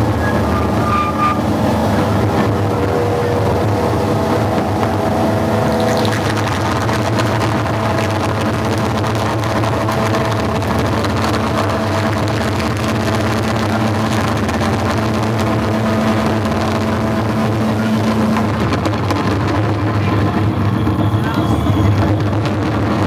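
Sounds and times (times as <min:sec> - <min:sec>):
band droning: 0:00.0 - 0:23.0
heavy low rumble: 0:00.0 - 0:23.0.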